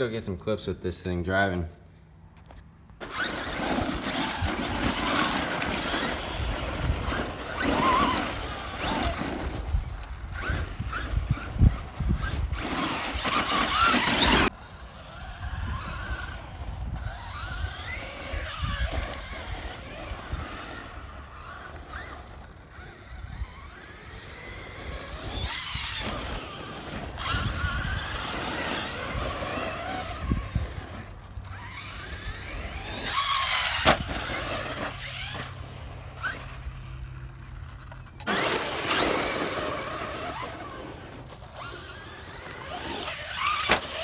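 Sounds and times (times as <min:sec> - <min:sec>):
tyre noise: 0:02.4 - 0:14.6, 0:15.2 - 0:44.0
electric motor whining: 0:03.0 - 0:44.0.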